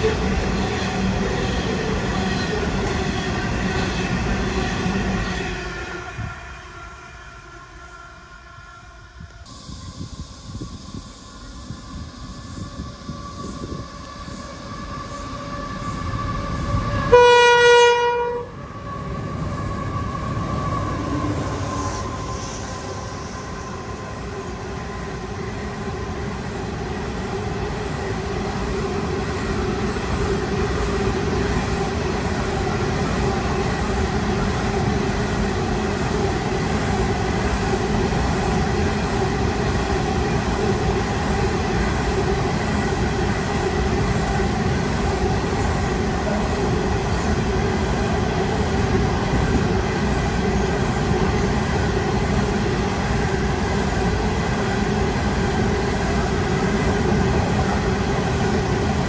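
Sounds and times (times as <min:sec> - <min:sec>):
freight train wheels rolling on rails: 0:00.0 - 0:59.0.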